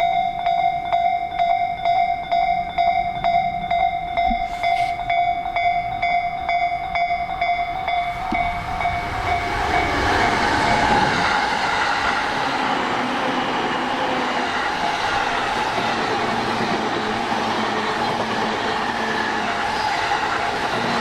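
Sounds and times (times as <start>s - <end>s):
level crossing warning bell: 0.0s - 21.0s
passing train: 0.0s - 21.0s.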